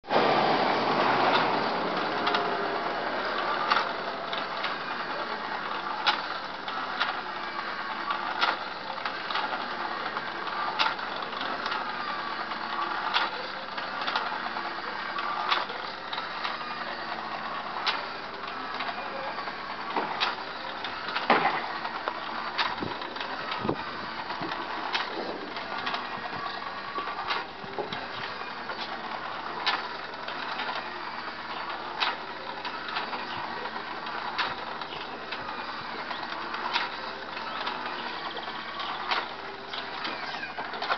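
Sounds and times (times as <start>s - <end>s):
rotisserie motor whirring: 0.0s - 40.9s.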